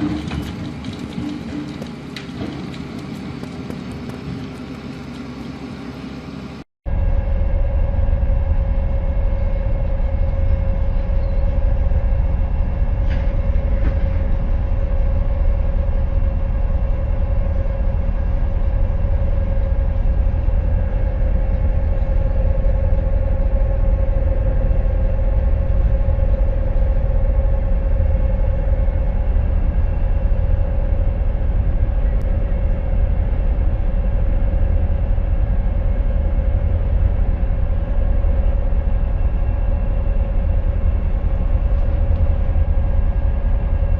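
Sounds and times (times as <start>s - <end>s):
mid-pitched whine: 0.0s - 43.9s
vehicle engine running under load: 0.0s - 43.9s.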